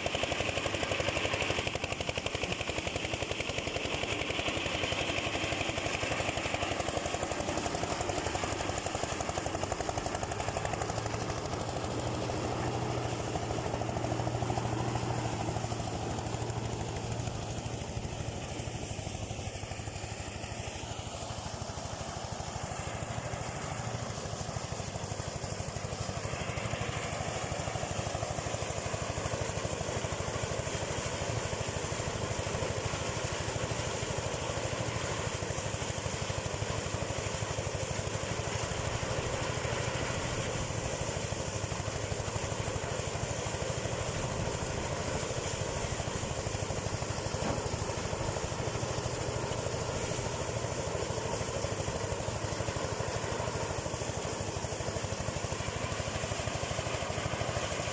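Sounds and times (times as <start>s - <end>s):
small engine droning: 0.0s - 57.9s.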